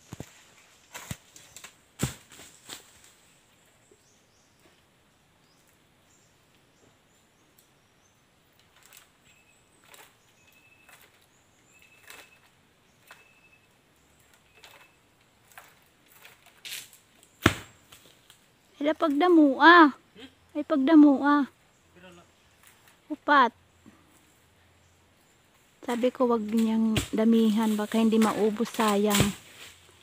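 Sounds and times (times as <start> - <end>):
birds chirping: 3.5 - 15.9, 17.3 - 29.3.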